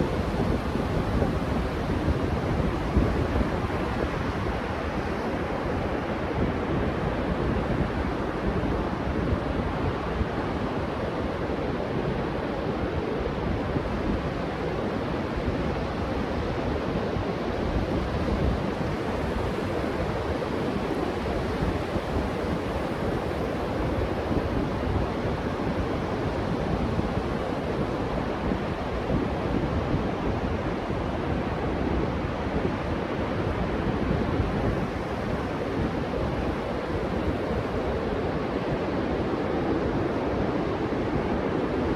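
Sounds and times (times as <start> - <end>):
ocean surf breaking on beach: 0.0 - 41.9
wind noise on microphone: 0.0 - 41.9.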